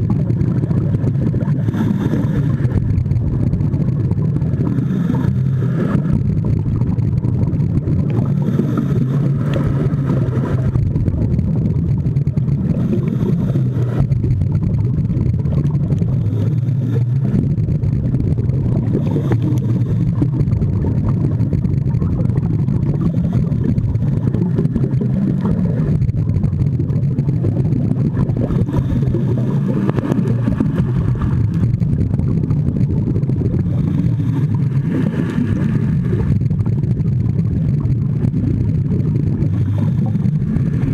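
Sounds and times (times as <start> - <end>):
regulator exhaust bubbles gurgling: 0.0 - 40.9
underwater rumble: 0.0 - 40.9.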